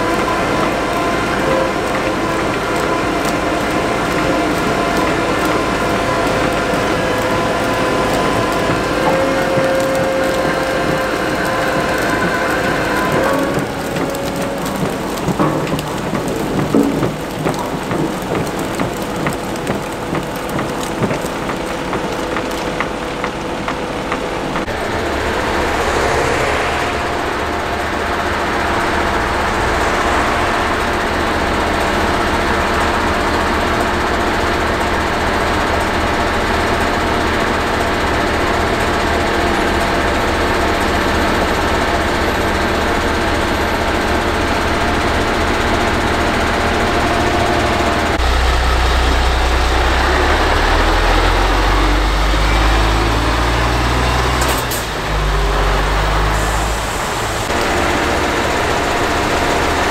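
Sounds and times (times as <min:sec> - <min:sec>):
beet loader engine and conveyors: 0:00.0 - 0:59.9
truck diesel engine: 0:00.0 - 0:59.9.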